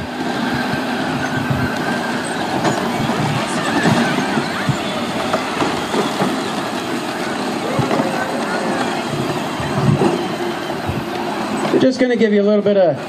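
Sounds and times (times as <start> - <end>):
toy car motors whining: 0.0 - 13.0
short squeals: 0.3 - 11.8.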